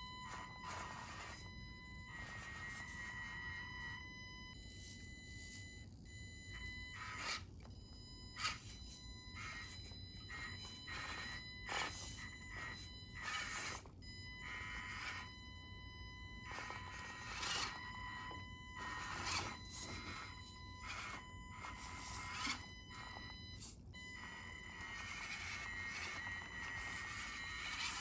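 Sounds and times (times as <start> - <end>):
small electric motor whine: 0.0 - 28.0.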